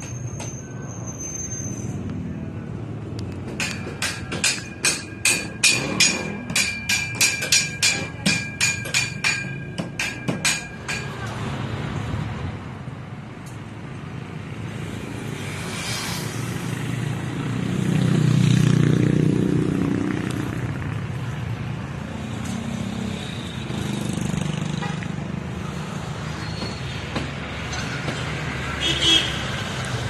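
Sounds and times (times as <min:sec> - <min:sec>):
street traffic hum: 0:00.0 - 0:30.0.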